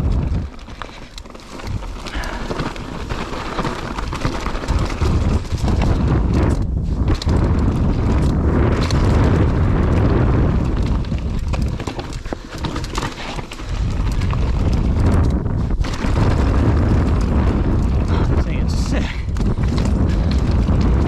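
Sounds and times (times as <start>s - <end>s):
bike clattering over rough ground: 0.0s - 21.0s
wind rumble on microphone: 0.0s - 21.0s.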